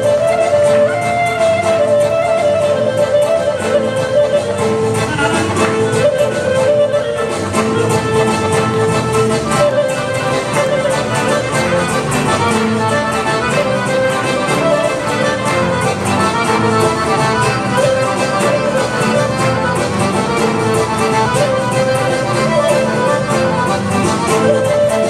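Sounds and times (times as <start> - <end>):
folk dance music: 0.0 - 25.0.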